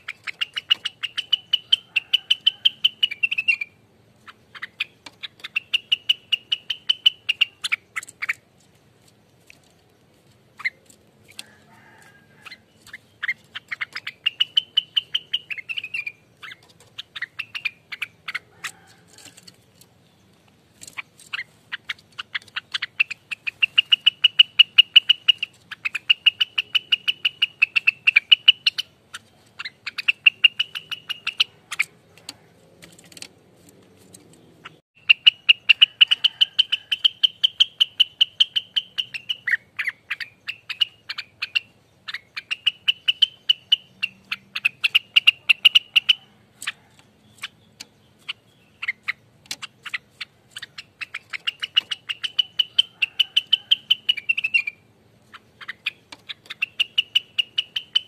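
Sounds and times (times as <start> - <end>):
songbird rattling song: 0.0 - 58.0.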